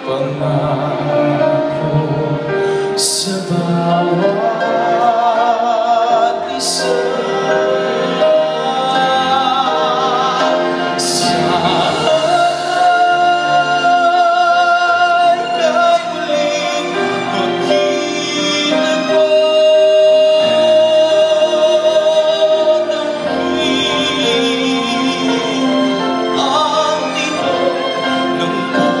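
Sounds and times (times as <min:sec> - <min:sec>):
man singing a ballad: 0:00.0 - 0:29.0
orchestral accompaniment: 0:00.0 - 0:29.0.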